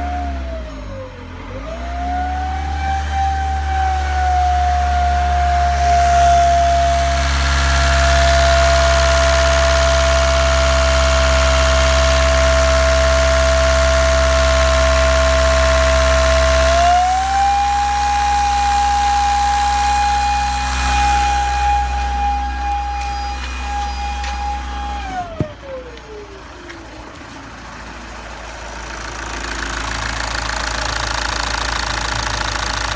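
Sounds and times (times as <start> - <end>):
diesel engine idling: 0.0 - 32.9
turbocharger high-pitched whine: 1.8 - 25.4, 28.9 - 32.9.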